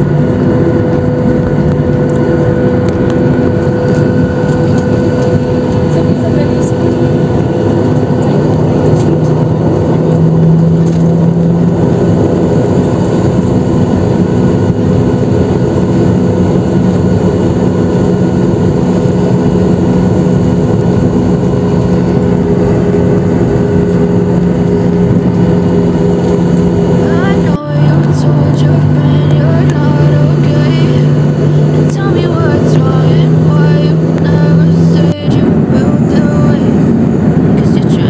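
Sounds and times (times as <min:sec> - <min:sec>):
jet engines droning in cabin: 0:00.0 - 0:38.0.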